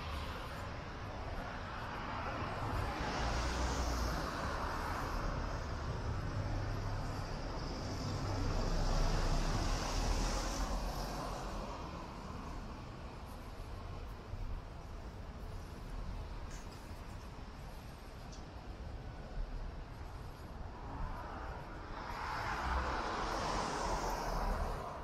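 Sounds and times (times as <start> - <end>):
road traffic rumble and tyre hiss: 0.0 - 25.0.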